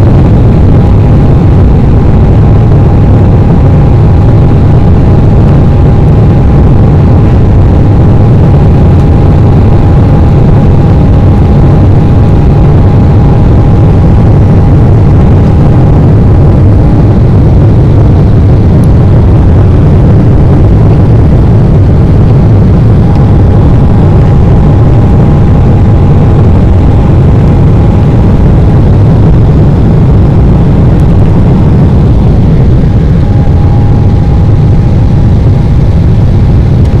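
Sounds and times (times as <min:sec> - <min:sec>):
jet engines roaring: 0:00.0 - 0:37.0
rushing air: 0:00.0 - 0:37.0
thin steady whine: 0:00.0 - 0:37.0.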